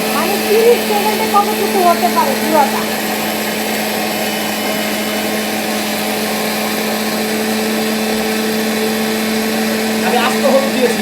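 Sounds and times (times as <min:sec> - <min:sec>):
blender motor grinding: 0:00.0 - 0:11.0.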